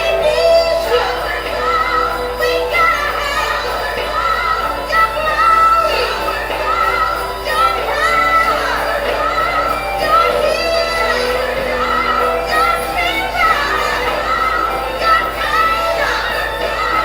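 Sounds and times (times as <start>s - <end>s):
woman singing with instruments: 0.0s - 17.0s.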